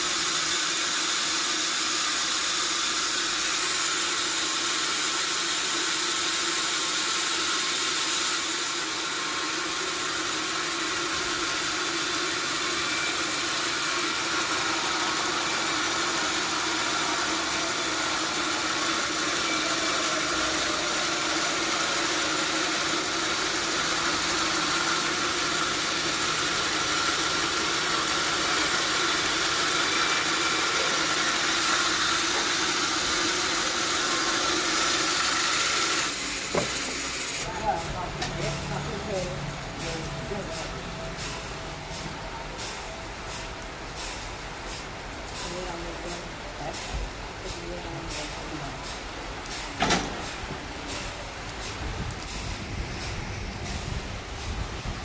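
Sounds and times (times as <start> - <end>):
sawmill motor hum with hiss: 0.0 - 55.0.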